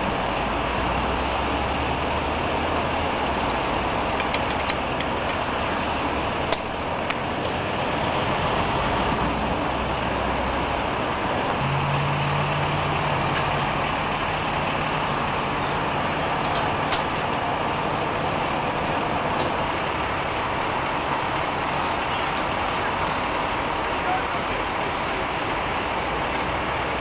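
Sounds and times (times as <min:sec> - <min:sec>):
low engine hum: 0:00.0 - 0:27.0
road traffic noise: 0:00.0 - 0:27.0.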